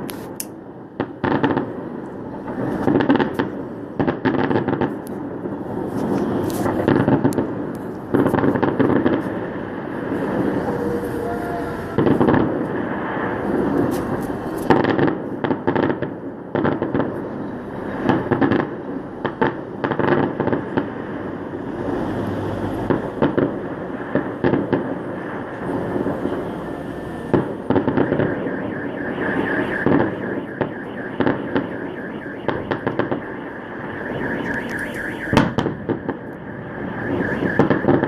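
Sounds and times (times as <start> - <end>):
continuous background noise: 0.0 - 38.0
fireworks bangs and crackles: 0.0 - 38.0.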